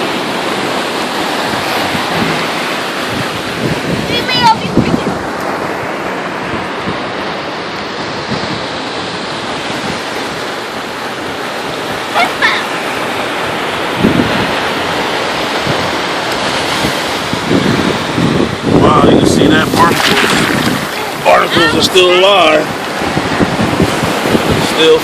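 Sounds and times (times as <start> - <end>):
wind noise on microphone: 0.0 - 12.6, 13.4 - 25.0
ocean waves breaking: 0.0 - 25.0.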